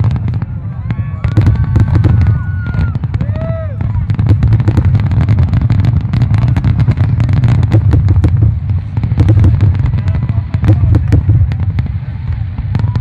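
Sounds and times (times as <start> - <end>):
deep rumble: 0.0 - 13.0
firework shells bursting: 1.2 - 13.0.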